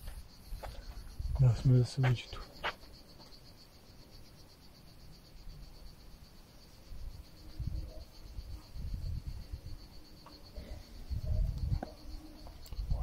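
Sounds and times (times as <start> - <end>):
insects chirping in a trill: 0.0 - 13.0.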